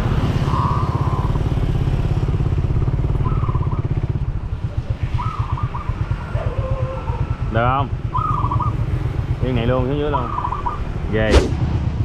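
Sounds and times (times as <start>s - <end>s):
small motorcycle engine running: 0.0s - 10.1s.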